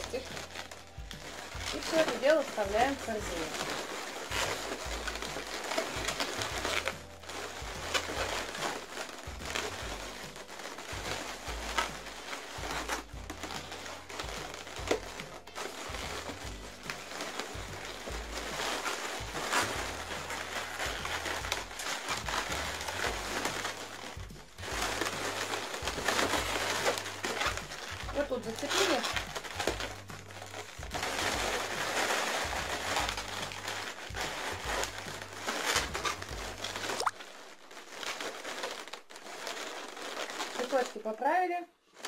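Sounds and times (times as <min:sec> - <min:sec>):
balloons rubbing and rustling: 0:00.0 - 0:42.0.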